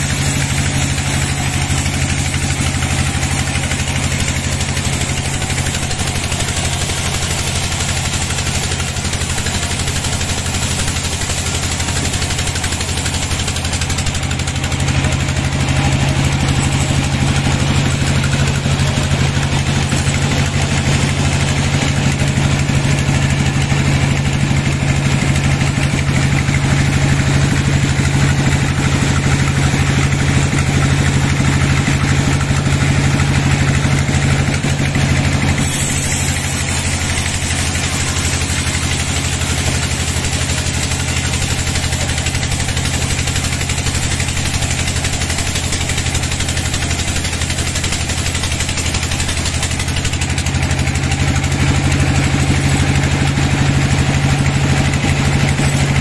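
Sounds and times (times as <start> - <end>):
band saw cutting log: 0.0 - 56.0
low motor hum: 0.0 - 56.0.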